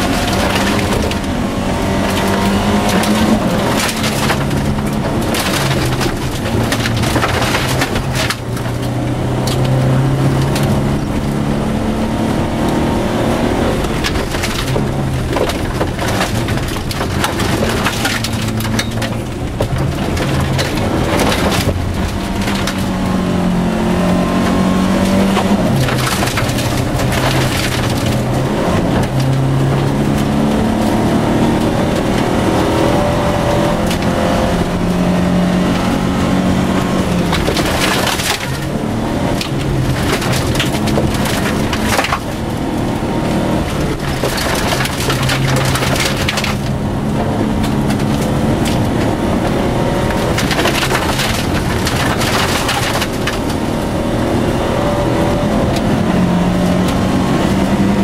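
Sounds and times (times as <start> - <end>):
gravel crunching: 0.0 - 58.0
rally car engine revving: 0.0 - 58.0.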